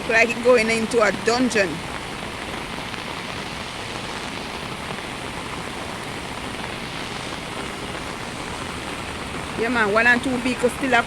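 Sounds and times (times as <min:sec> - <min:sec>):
heavy rain falling: 0:00.0 - 0:11.0
river water rushing: 0:00.0 - 0:11.0.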